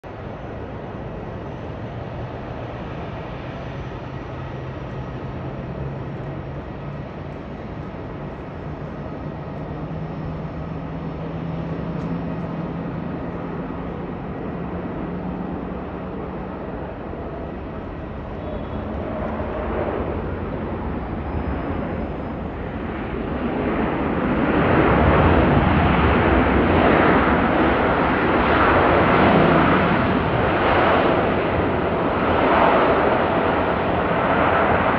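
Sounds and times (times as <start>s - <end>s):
distant jet engines rushing: 0.0s - 34.9s.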